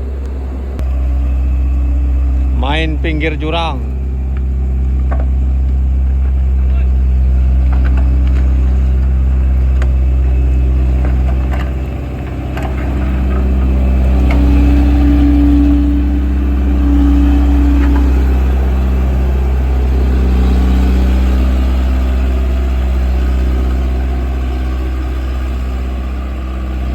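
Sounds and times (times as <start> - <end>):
diesel engine rumbling: 0.0 - 26.9
higher hum: 0.0 - 26.9.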